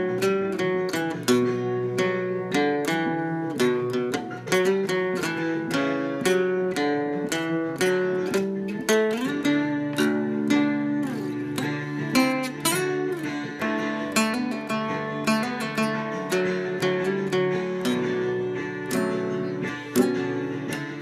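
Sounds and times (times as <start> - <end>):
acoustic guitar plucking: 0.0 - 21.0.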